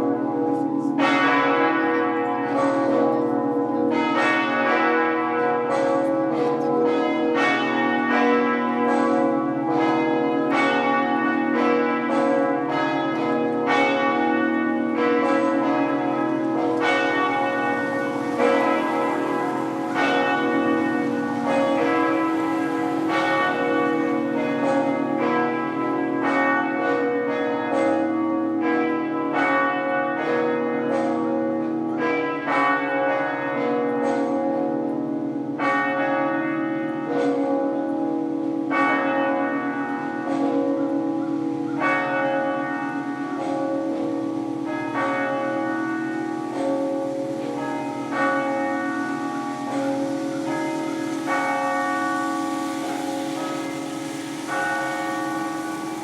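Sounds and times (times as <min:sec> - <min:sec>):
half-muffled church bells pealing: 0:00.0 - 0:56.0.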